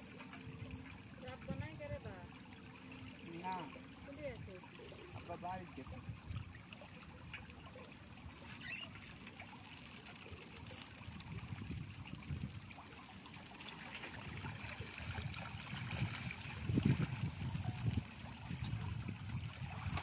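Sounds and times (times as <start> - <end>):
water splashing: 0.0 - 20.0
water trickling off a net: 0.0 - 20.0.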